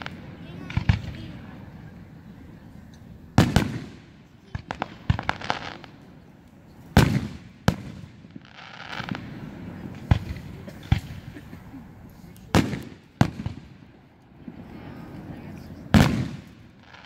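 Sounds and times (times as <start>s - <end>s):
fireworks booming: 0.0s - 2.2s, 3.2s - 17.0s
fireworks popping and crackling: 0.0s - 2.2s, 2.9s - 17.0s.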